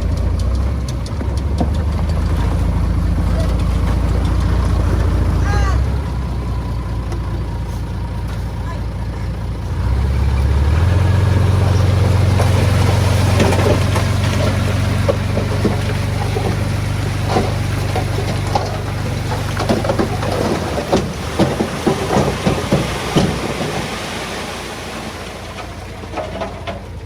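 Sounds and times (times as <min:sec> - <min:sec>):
heavy diesel machinery running: 0:00.0 - 0:27.0.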